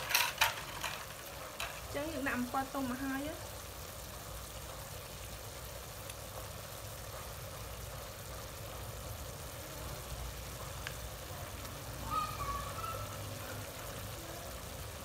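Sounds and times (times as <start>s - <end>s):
gas stove burner roaring: 0.0s - 15.0s
pot simmering: 0.0s - 15.0s.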